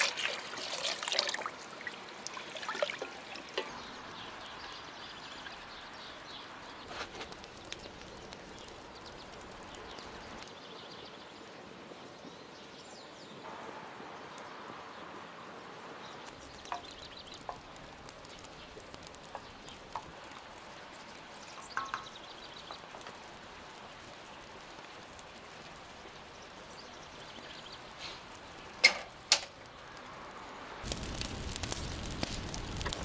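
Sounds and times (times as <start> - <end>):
wood fire crackling and popping: 0.1 - 10.6, 16.2 - 33.0.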